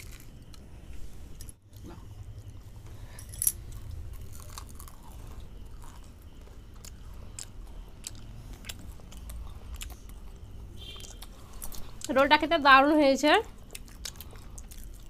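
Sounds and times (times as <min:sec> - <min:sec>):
crunchy food being chewed: 0:00.0 - 0:03.0, 0:03.6 - 0:12.2, 0:13.4 - 0:15.0.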